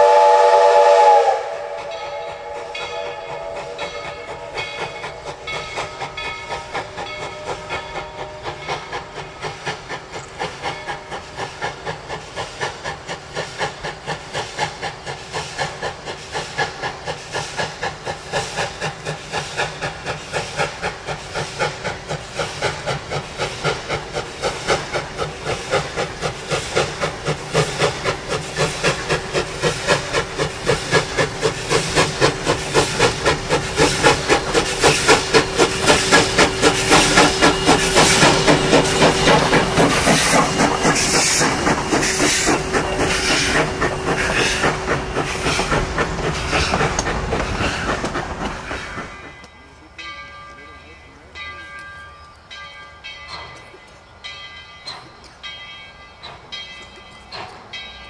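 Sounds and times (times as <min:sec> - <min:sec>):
steam hissing: 0:00.0 - 0:58.0
steam locomotive chuffing: 0:00.0 - 0:58.0.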